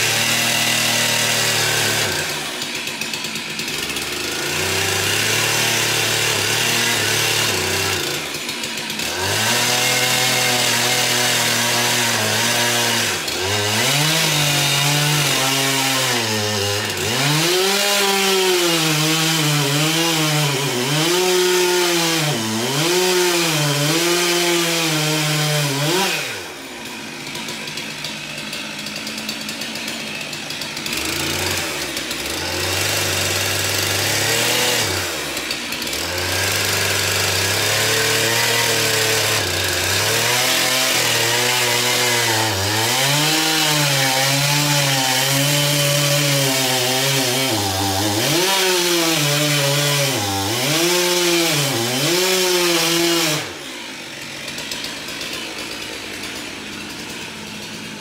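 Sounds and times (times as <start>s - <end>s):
chainsaw cutting into log: 0.0s - 58.0s.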